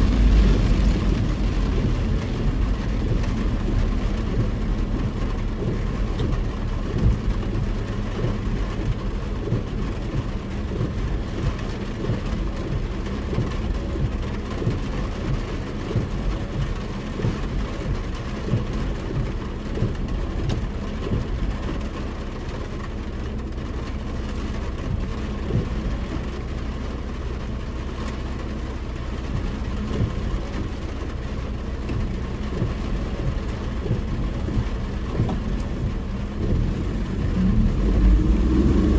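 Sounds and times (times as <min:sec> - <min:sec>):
car engine and road drone: 0:00.0 - 0:38.9
heavy rain striking car: 0:00.0 - 0:38.9.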